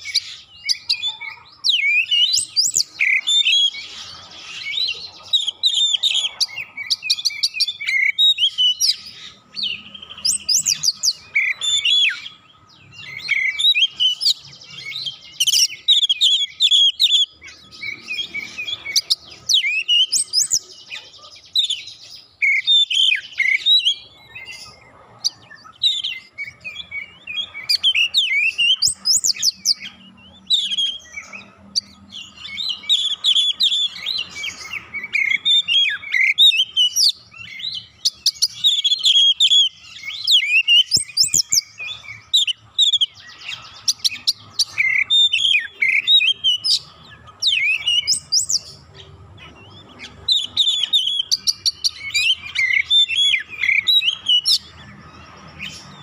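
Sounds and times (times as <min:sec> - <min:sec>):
songbird singing whistles and chirps: 0:00.0 - 0:56.0.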